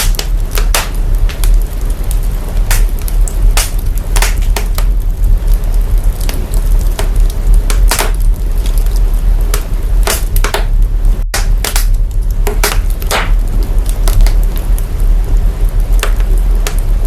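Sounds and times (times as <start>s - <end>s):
fire crackling and popping: 0.0s - 17.0s
low bass rumble: 0.0s - 17.0s.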